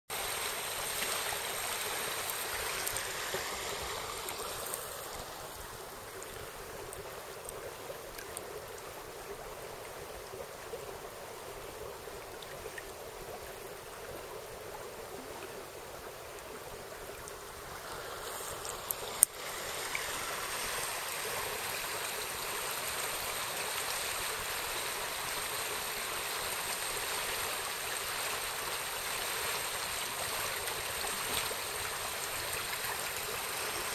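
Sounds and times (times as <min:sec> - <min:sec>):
stream burbling over stones: 0:00.1 - 0:33.9.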